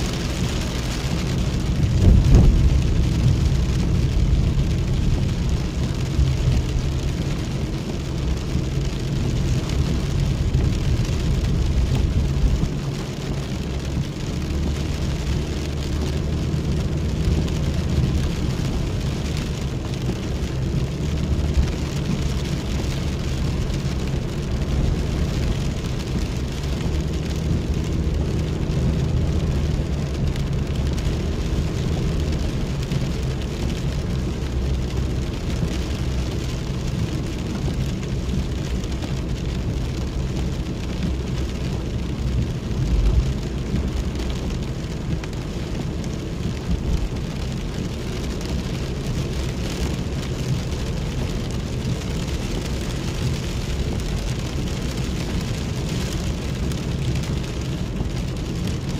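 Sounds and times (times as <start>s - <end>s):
rain on car roof: 0.0s - 58.9s
vehicle driving rumble: 0.0s - 58.9s.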